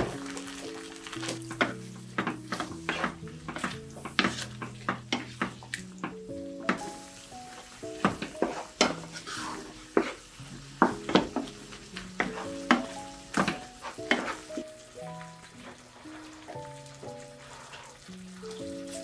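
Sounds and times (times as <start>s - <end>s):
wooden spatula scraping a pan: 0.0s - 14.8s, 15.4s - 16.6s, 17.3s - 19.0s
gentle background music: 0.0s - 19.0s
light sizzle: 0.0s - 19.0s.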